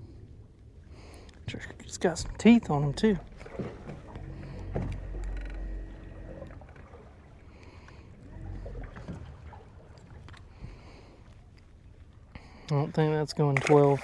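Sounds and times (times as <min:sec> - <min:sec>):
boat low rumble: 0:00.0 - 0:14.0.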